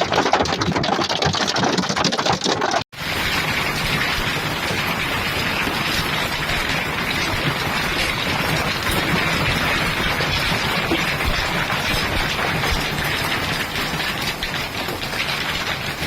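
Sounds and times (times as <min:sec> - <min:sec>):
hail and heavy rain pounding: 0:00.0 - 0:16.0.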